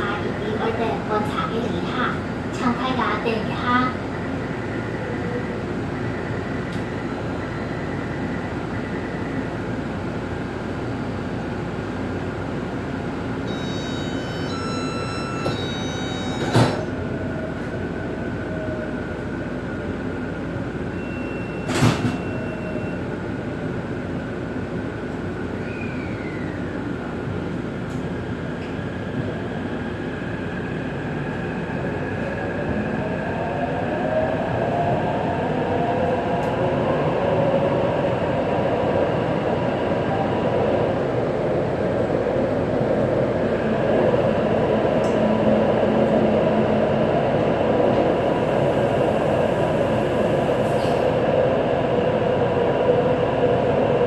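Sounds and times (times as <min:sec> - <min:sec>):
subway car hum: 0:00.0 - 0:54.0.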